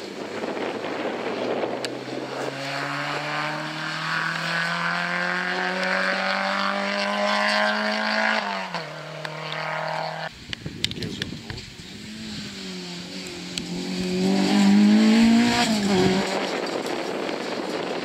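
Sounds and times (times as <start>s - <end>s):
rally car engine accelerating: 0.3s - 10.3s, 11.6s - 18.0s.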